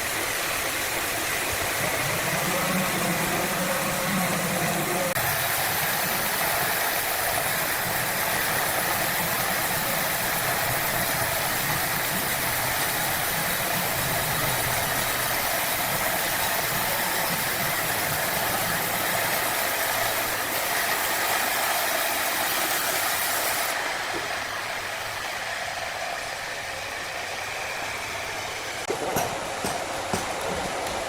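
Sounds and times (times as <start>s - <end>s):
motorized wood saw running: 0.0s - 31.0s.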